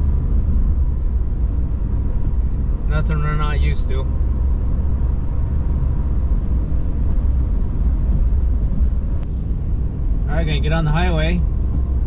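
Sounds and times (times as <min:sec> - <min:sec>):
engine and tyre rumble in cabin: 0:00.0 - 0:12.0.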